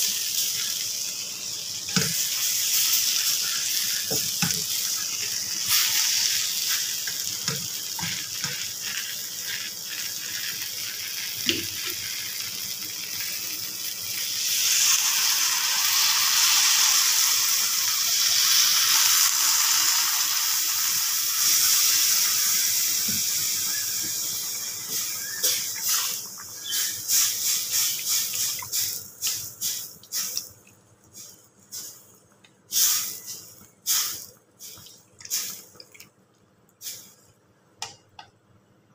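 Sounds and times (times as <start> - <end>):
vegetables sizzling in a pan: 0.0 - 30.4, 32.7 - 35.7
water hissing in a hot pan: 0.0 - 30.5, 31.1 - 32.1, 32.7 - 35.7, 36.8 - 37.3.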